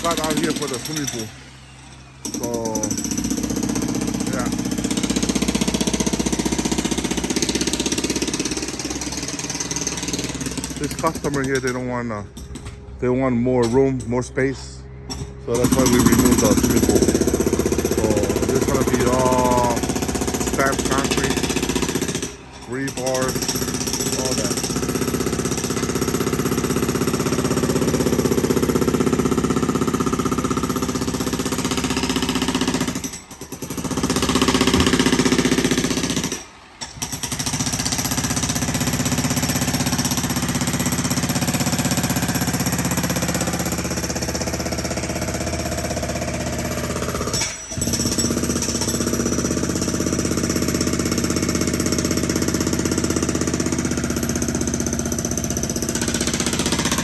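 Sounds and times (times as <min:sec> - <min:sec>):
jackhammer breaking concrete: 0:00.0 - 0:12.9, 0:13.6 - 0:57.0.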